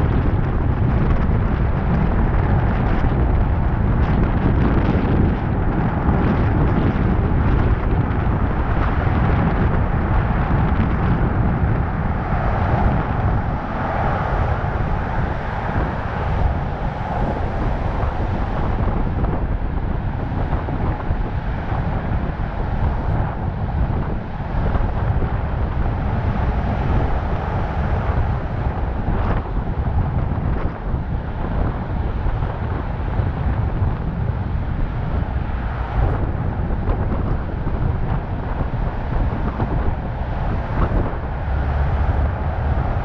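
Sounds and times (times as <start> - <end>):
road and engine noise: 0.0 - 43.0
wind rushing over microphone: 0.0 - 43.0.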